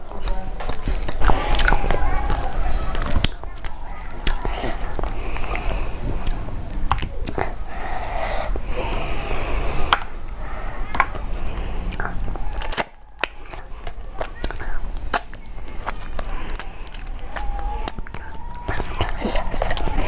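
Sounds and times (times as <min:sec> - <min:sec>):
fingers squishing food: 0:00.0 - 0:20.0
wet chewing with lip smacks: 0:00.0 - 0:20.0.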